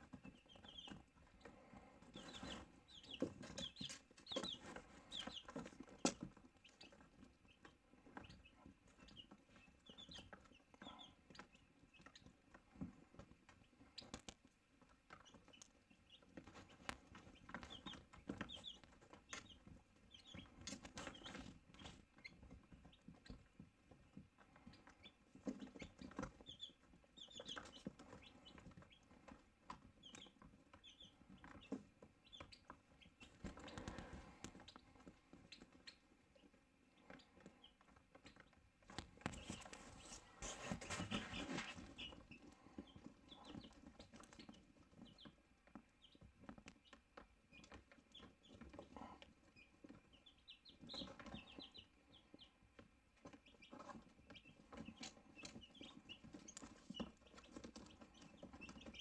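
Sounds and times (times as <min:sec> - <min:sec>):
chicks peeping: 0:00.0 - 0:59.0
rustling of moving birds: 0:00.0 - 0:59.0.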